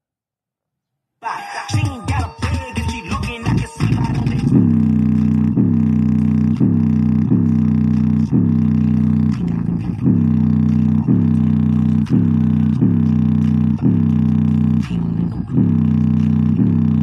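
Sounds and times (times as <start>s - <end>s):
deep hip-hop bass notes from speaker: 1.7s - 17.0s.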